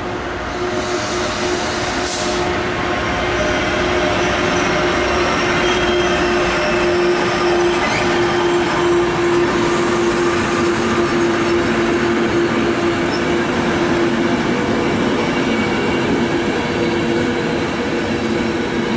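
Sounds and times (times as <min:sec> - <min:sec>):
train carriages rolling by: 0:00.5 - 0:18.9.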